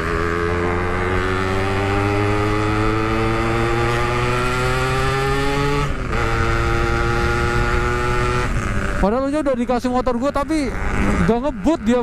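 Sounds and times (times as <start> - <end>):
two-stroke motorcycle engine accelerating: 0.0 - 12.0.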